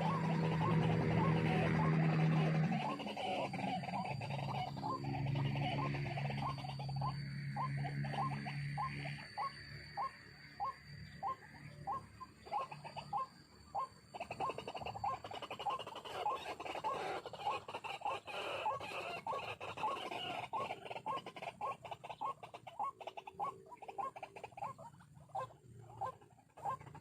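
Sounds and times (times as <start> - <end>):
waterhen calling: 0.0 - 27.0.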